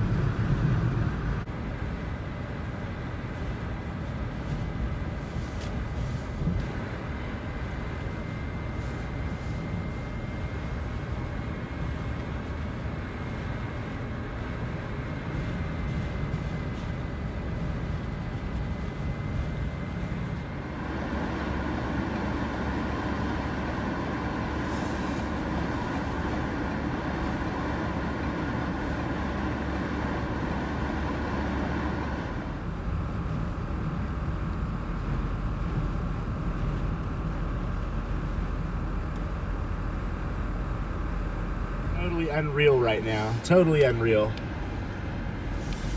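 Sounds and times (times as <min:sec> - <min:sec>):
wind against car: 0:00.0 - 0:39.8, 0:44.4 - 0:45.9
engine and tyre rumble: 0:00.0 - 0:45.9.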